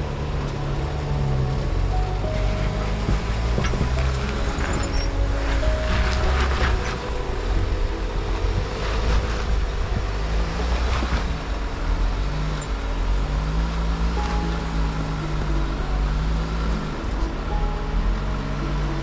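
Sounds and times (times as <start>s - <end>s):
vehicle engine rumbling at low revs: 0.0s - 19.0s.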